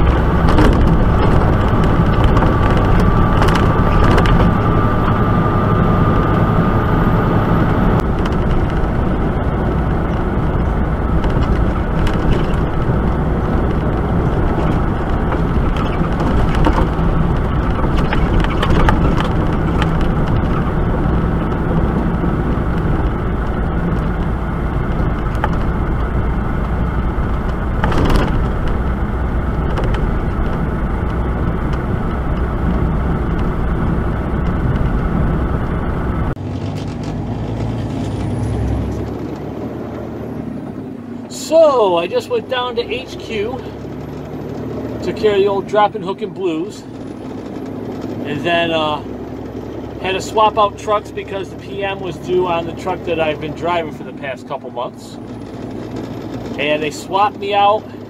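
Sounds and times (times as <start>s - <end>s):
road and tyre noise: 0.0s - 58.0s
truck engine drone: 0.0s - 58.0s.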